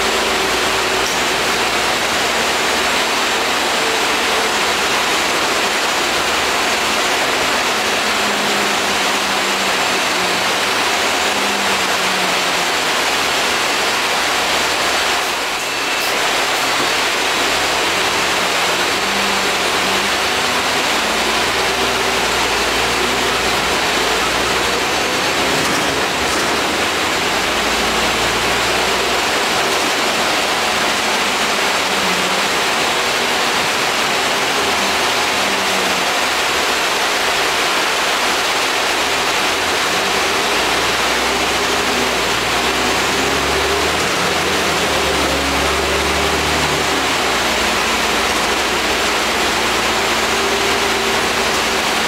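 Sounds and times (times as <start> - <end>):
bus engine: 0.0 - 52.0
road noise: 0.0 - 52.0.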